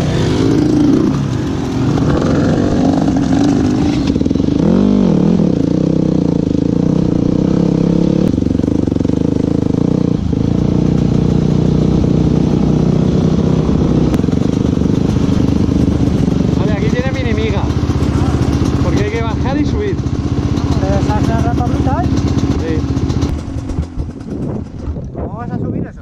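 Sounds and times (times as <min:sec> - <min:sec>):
motorcycle engine idling: 0:00.0 - 0:25.2
motorcycle engine revving: 0:00.0 - 0:25.2.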